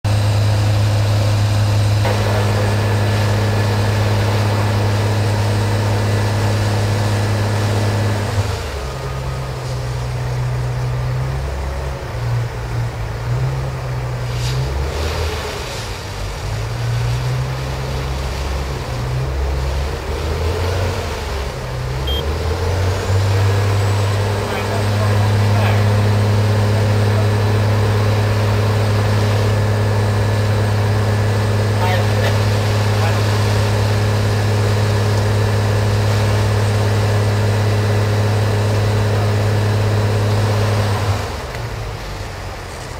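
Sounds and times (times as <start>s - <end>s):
diesel engines droning: 0.0s - 42.9s.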